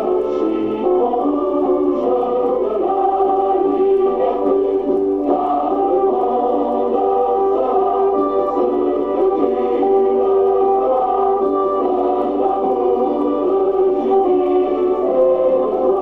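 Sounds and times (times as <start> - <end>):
choir singing long held notes: 0.0 - 16.0.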